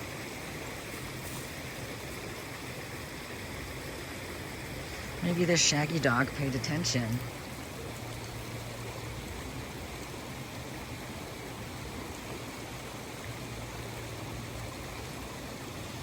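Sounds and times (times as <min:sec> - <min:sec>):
river flowing water rushing: 0:00.0 - 0:16.0.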